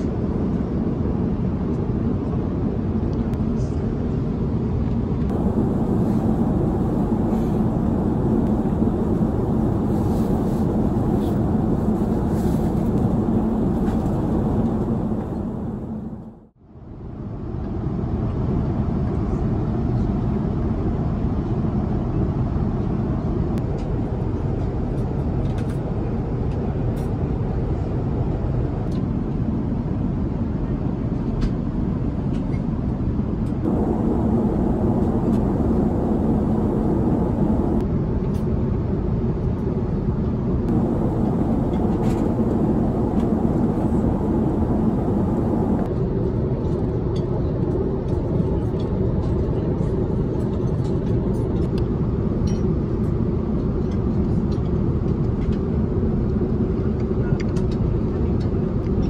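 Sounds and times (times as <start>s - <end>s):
airplane cabin noise: 0.0s - 16.6s, 18.0s - 38.6s, 40.1s - 59.0s.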